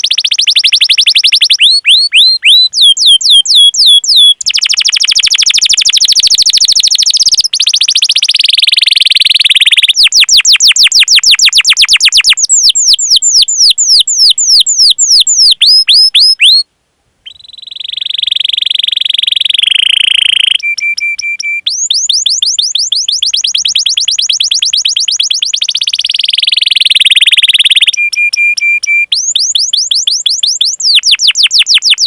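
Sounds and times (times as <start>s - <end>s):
canary singing trills and chirps: 0.0s - 16.6s, 17.2s - 32.0s.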